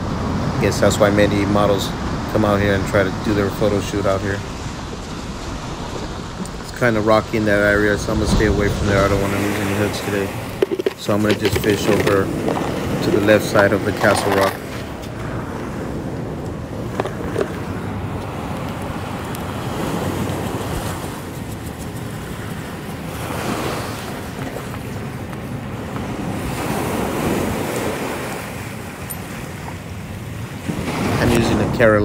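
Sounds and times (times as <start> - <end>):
surf washing over rocky shore: 0.0 - 32.0
wind buffeting microphone: 0.0 - 32.0.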